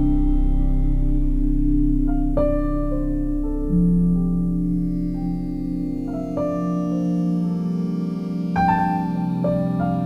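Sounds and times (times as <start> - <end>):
slow keyboard music: 0.0 - 10.0.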